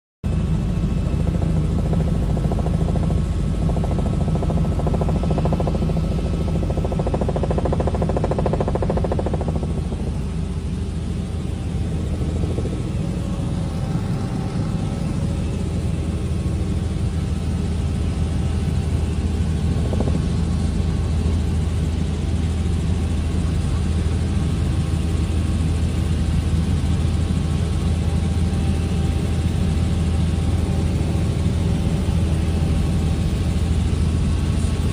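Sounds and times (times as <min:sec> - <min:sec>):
vehicle engine hum: 0:00.2 - 0:34.9.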